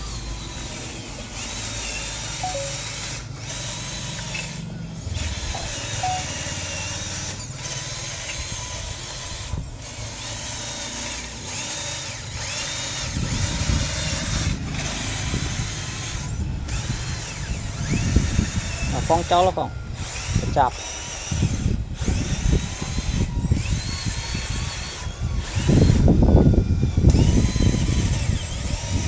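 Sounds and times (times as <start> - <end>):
small electric motors whining: 0.0 - 29.0.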